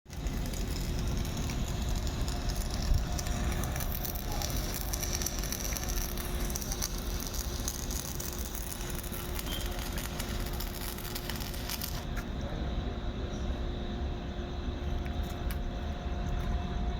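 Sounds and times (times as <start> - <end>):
arc welding crackling: 0.0 - 12.4, 14.8 - 16.4
low hum: 0.1 - 16.9.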